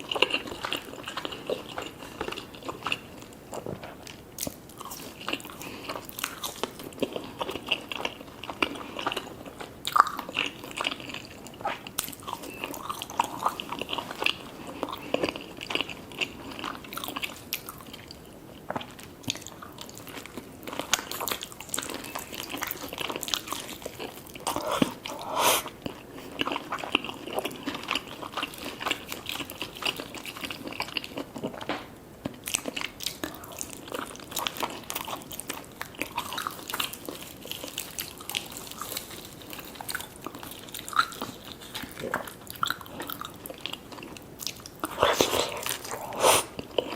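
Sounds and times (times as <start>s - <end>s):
crunching fried food: 0.0s - 46.9s.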